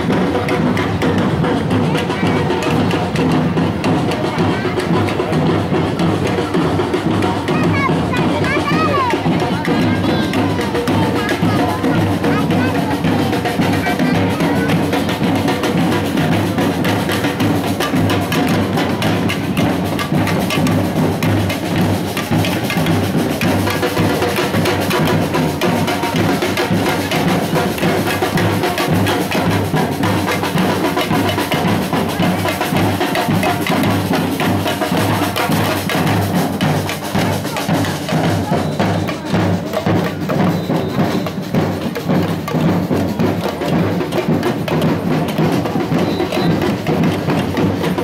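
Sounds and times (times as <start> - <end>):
marching drum band: 0.0 - 48.0.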